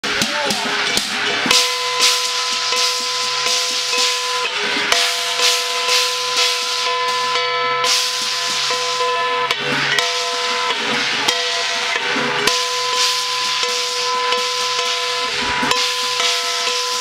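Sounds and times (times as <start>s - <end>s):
sharp percussion strikes: 0.0s - 17.0s.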